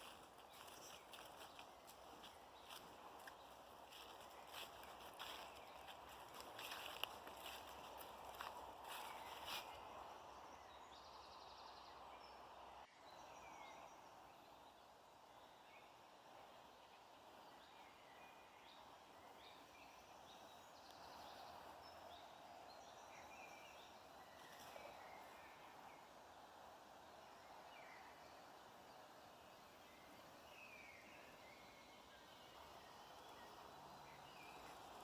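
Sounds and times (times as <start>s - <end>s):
songbirds chirping: 0.0s - 35.0s
steady outdoor hiss: 0.0s - 35.0s.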